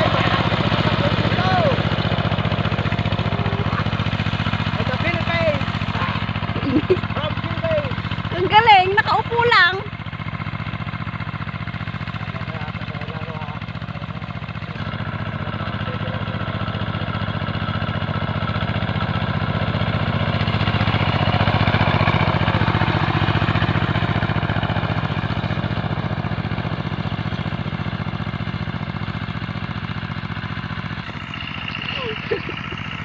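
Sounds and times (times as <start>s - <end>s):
hand tractor engine chugging: 0.0s - 33.0s.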